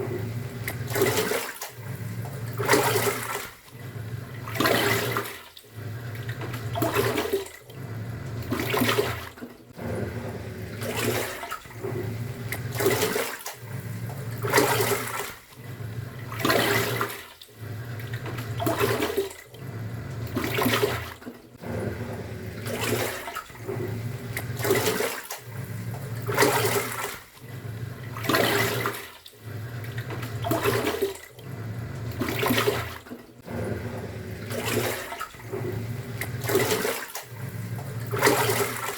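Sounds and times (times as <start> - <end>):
washing machine motor humming: 0.0 - 38.9
water sloshing: 0.0 - 38.9.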